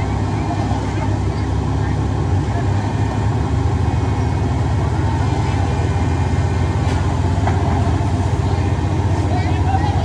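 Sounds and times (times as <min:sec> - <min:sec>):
diesel engine low rumble: 0:00.0 - 0:10.0.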